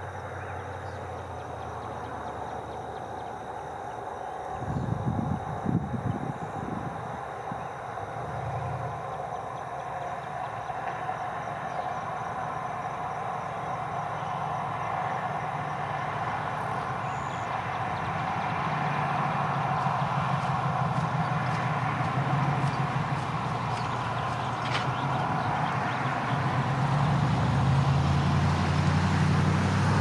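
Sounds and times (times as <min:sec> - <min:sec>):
distant road traffic hum: 0:00.0 - 0:30.0.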